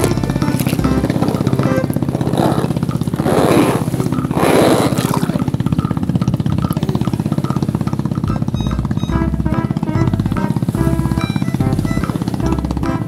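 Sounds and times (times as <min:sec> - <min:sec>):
pulsing engine-like buzz: 0:00.0 - 0:13.0.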